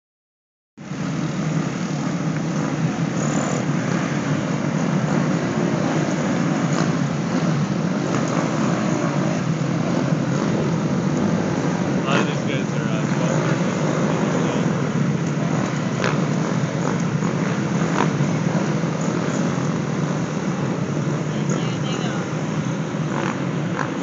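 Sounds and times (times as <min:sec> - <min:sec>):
motorcycles passing at low speed: 0:00.8 - 0:24.0.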